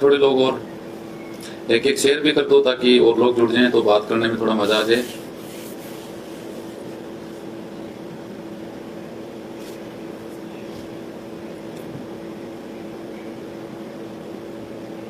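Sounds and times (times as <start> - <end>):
droning hum: 0.0 - 15.0.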